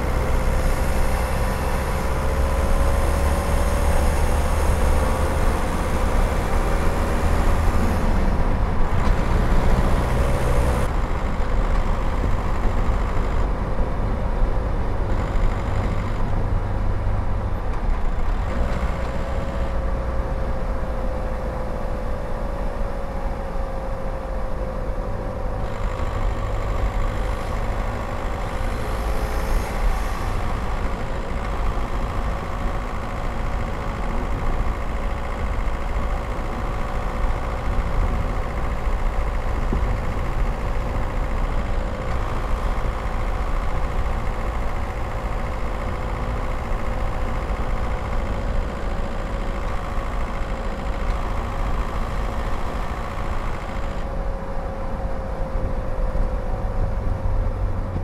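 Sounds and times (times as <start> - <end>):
diesel car engine running: 0.0 - 58.0
tyre and road noise: 0.0 - 58.0.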